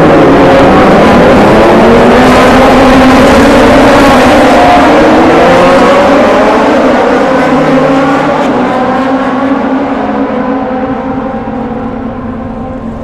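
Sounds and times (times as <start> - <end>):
racing motorcycles at full throttle: 0.0 - 13.0.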